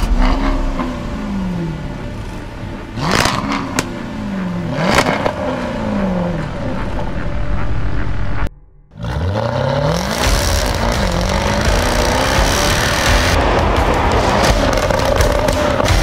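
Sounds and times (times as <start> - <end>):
car engine revving: 0.0 - 16.0
exhaust crackles: 0.0 - 16.0.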